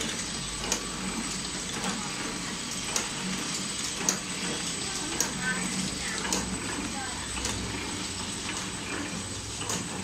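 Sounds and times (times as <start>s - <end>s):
packing machine running: 0.0s - 10.0s.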